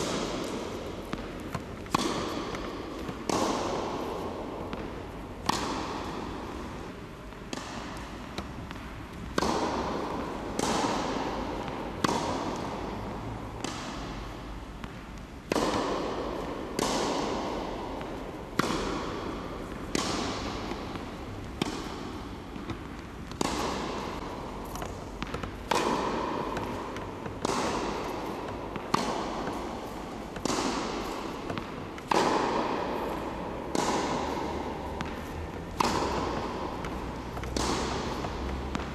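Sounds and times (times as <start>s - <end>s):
tennis racket hitting ball: 0.0s - 38.9s.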